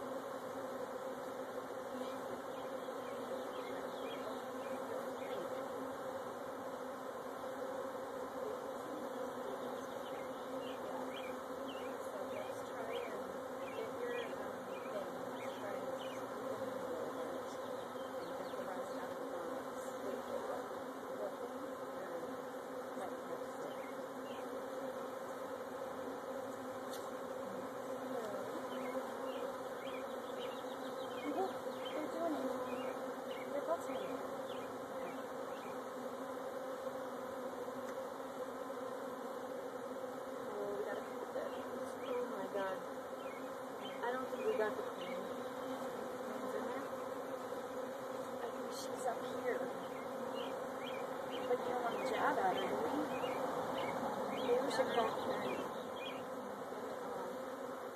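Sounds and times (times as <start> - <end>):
bee swarm buzzing: 0.0 - 57.9
single bees whining past: 0.0 - 57.9.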